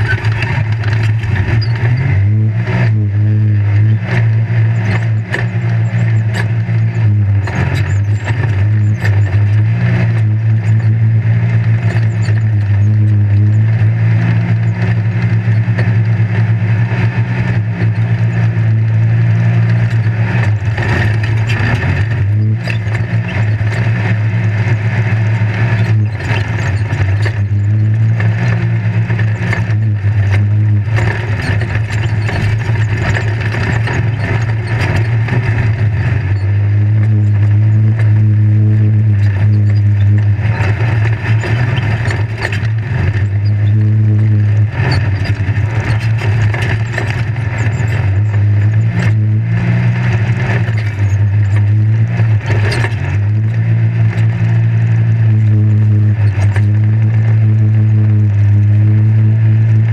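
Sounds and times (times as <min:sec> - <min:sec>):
chassis knocks and rattles: 0:00.0 - 0:03.0, 0:03.7 - 0:16.2, 0:17.4 - 0:54.6, 0:56.2 - 0:57.6
race vehicle engine running: 0:00.0 - 0:59.9.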